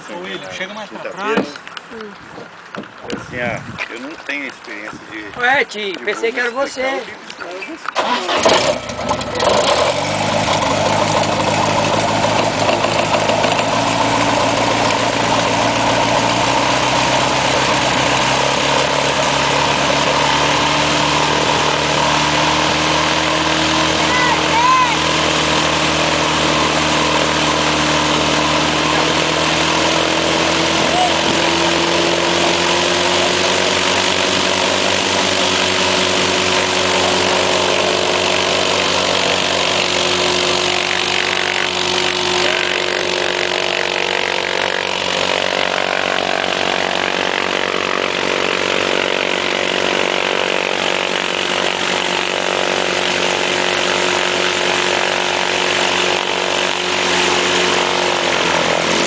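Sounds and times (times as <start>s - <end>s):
airplane piston engine and propeller: 4.0s - 59.0s.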